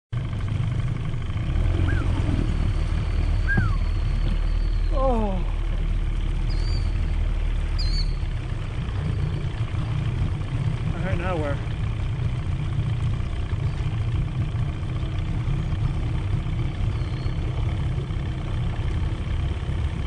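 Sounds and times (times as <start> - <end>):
outboard motor running: 0.1 - 20.0
birds calling: 1.0 - 19.6.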